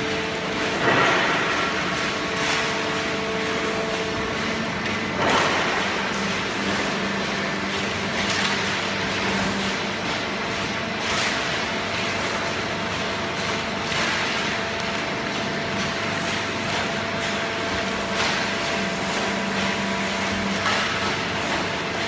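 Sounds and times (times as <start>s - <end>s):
baling press machine hum: 0.0s - 22.0s.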